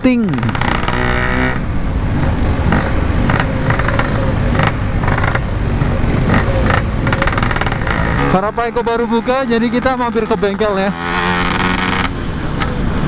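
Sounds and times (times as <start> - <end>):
two-stroke motorcycle engine: 0.0 - 13.0.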